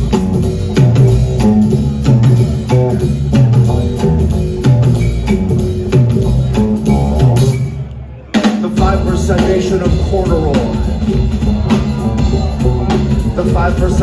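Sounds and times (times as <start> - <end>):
repeating bass line: 0.0 - 8.0, 8.8 - 14.0
drum kit beat: 0.0 - 14.0
rock guitar: 0.0 - 14.0.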